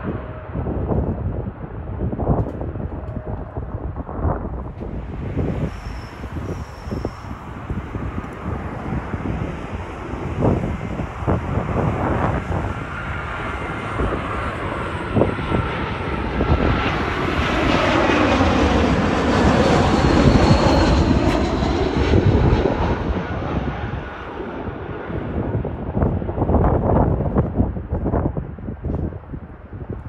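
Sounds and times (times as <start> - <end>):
jet aircraft passing overhead: 0.0 - 30.0.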